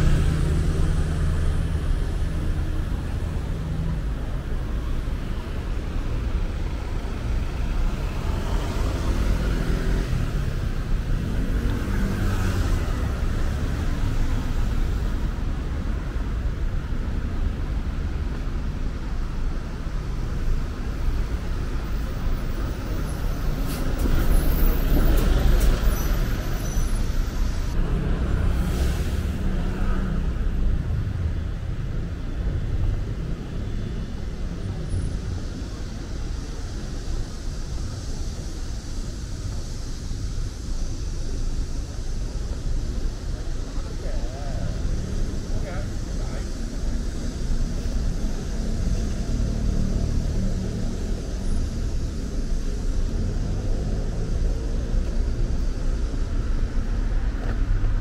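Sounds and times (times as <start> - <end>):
vehicle engines passing: 0.0 - 58.0.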